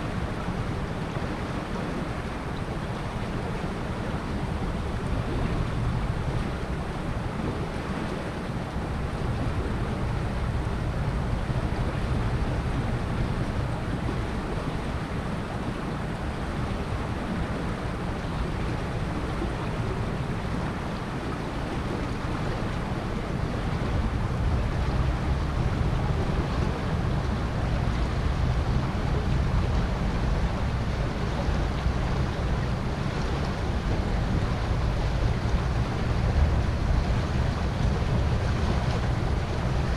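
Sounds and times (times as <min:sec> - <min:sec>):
river water flowing: 0:00.0 - 0:39.9
wind buffeting microphone: 0:00.0 - 0:39.9.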